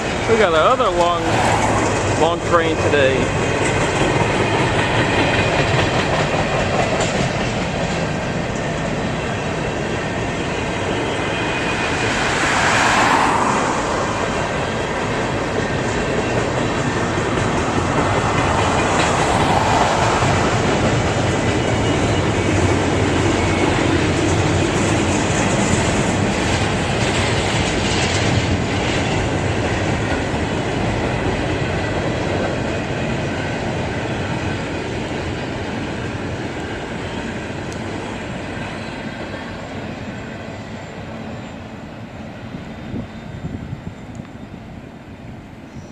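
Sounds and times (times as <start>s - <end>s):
freight train wheels clattering: 0.0s - 13.2s, 14.2s - 39.8s.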